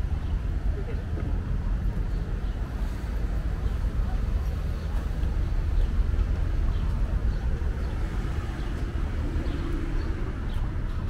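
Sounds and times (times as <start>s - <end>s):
low rumble of car traffic: 0.0s - 11.0s.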